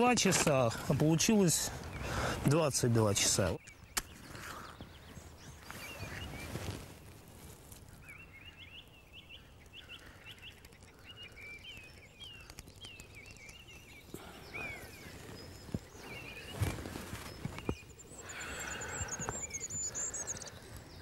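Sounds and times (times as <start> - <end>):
small songbird chirping: 0.2 - 21.0
dry twigs rustling: 3.7 - 21.0.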